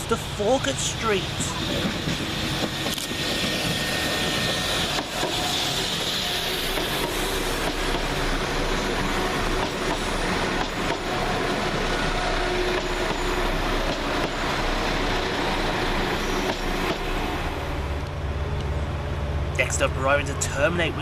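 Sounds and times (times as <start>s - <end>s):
train wheels on rail: 0.0s - 19.6s
diesel train engines running: 0.0s - 21.0s.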